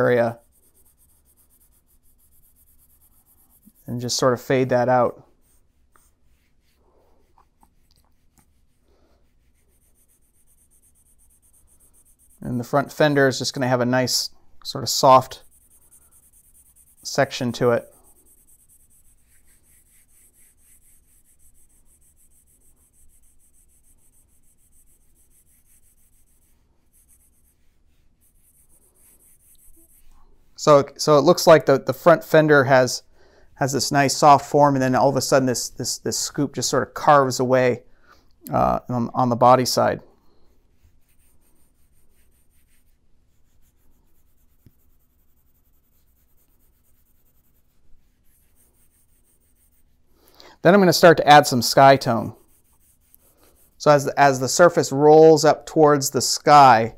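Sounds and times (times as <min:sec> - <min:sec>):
drawing tool rubbing on paper: 0:00.0 - 0:32.6, 0:39.7 - 0:54.9.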